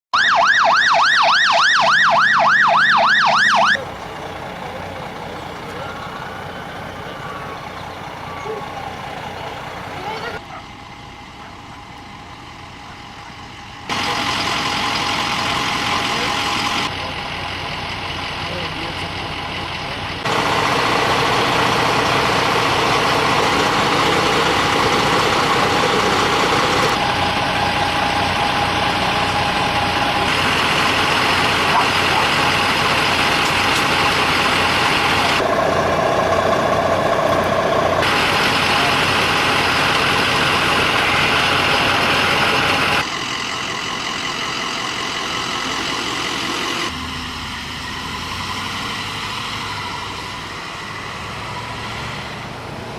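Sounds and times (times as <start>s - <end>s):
vehicle engine running: 1.6s - 52.9s.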